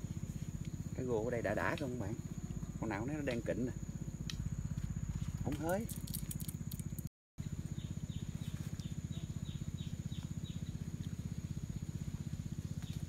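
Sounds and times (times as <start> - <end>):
constant high whine: 0.0 - 13.0
low pulsing animal chorus: 0.0 - 13.0.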